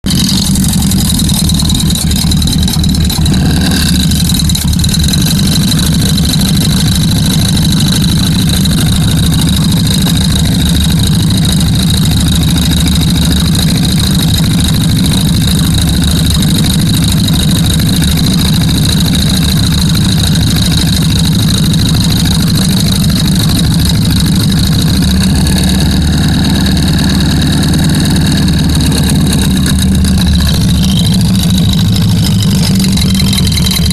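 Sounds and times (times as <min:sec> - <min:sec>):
high-pitched whine: 0:00.0 - 0:33.9
vehicle engine humming: 0:00.0 - 0:33.9.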